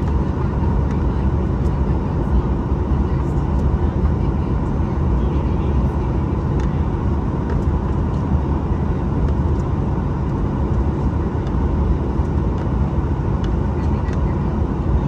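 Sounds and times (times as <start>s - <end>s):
faint steady whine: 0.0s - 15.0s
low jet engine rumble: 0.0s - 15.0s.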